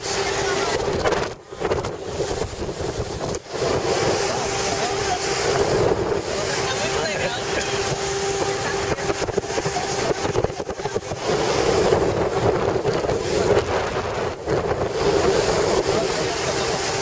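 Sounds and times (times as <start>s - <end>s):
motorboat engine hum: 0.0s - 17.0s
rushing water: 0.0s - 17.0s
wind buffeting microphone: 0.0s - 17.0s.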